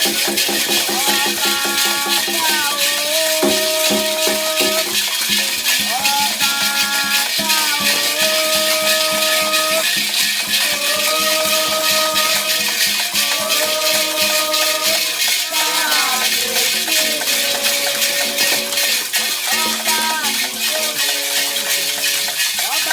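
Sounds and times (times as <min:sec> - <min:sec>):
hand rattle shaking: 0:00.0 - 0:22.9
person singing: 0:00.5 - 0:22.9.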